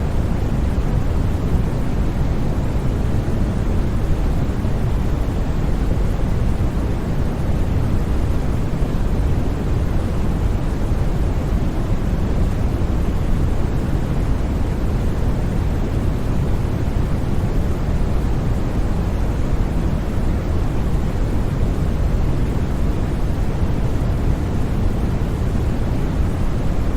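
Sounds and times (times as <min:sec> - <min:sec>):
deep white noise: 0:00.0 - 0:26.9.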